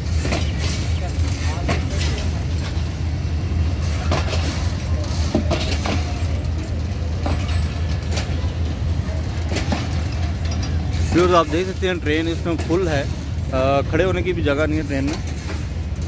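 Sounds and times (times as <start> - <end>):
train rumbling past: 0.0 - 16.0
train wheels clacking: 0.0 - 16.0.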